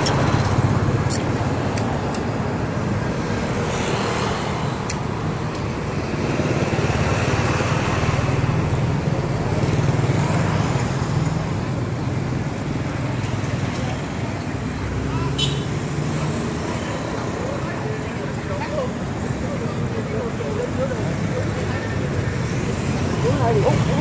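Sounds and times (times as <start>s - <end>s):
car engines passing: 0.0s - 24.0s
motorbike engines: 0.0s - 24.0s.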